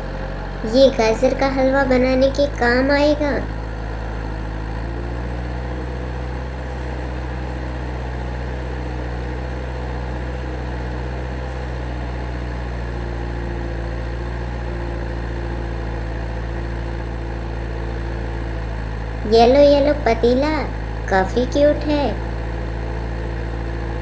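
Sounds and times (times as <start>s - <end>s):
excavator engine idling: 0.0s - 24.0s.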